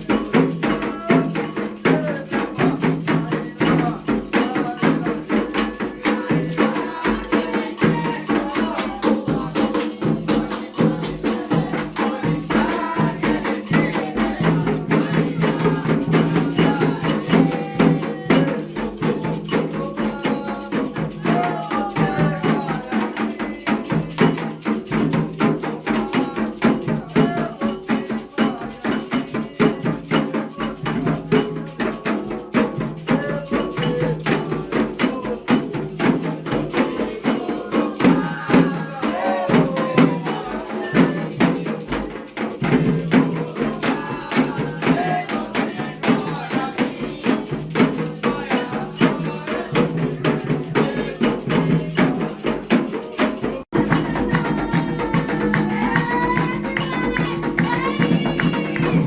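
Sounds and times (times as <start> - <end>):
fast drumming and percussion: 0.0 - 59.0
voices singing: 0.0 - 59.0.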